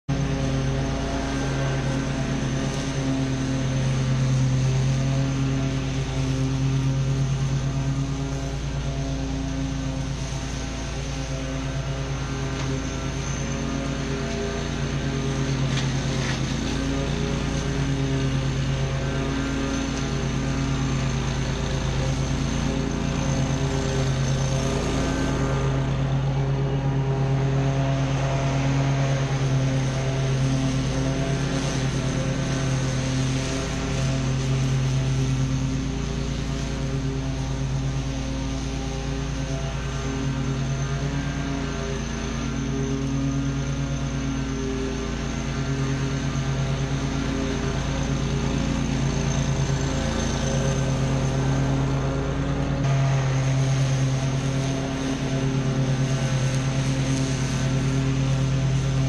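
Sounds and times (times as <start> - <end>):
mower engine drone: 0.0 - 59.0.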